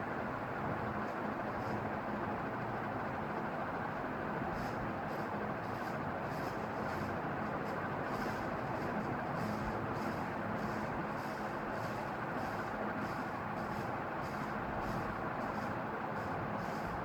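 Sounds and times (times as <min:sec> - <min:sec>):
ceiling fan running: 0:00.0 - 0:17.0.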